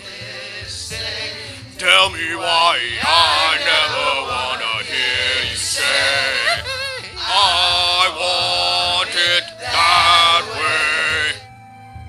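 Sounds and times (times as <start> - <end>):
pop backing music: 0.0 - 12.0
man singing: 1.8 - 11.4.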